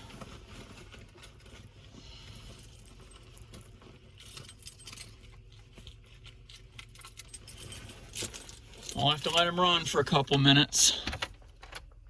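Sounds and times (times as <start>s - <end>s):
car keys jingling: 2.3s - 12.0s.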